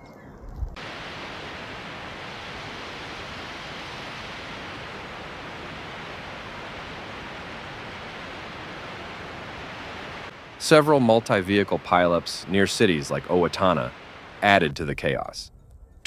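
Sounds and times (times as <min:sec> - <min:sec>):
steady rushing noise: 0:00.7 - 0:15.5.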